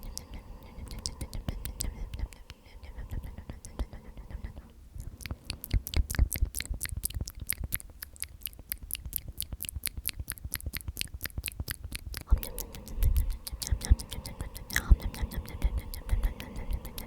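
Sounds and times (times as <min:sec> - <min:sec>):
mouth clicks and smacks: 0:00.0 - 0:17.0.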